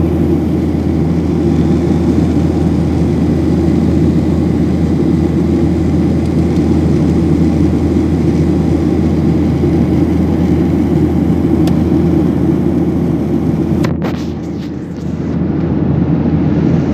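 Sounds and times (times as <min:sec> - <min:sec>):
jet engine roar in a cabin: 0:00.0 - 0:16.9.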